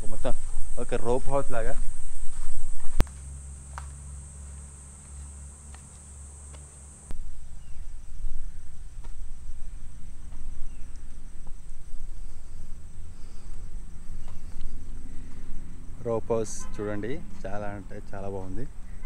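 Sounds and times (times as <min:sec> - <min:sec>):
low rumbling: 0:00.0 - 0:18.1
insect trill: 0:00.0 - 0:19.0.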